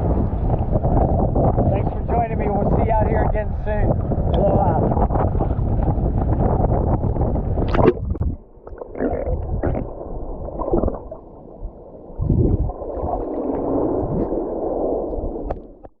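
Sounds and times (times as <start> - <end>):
muffled water sloshing and gurgling: 0.0 - 16.0.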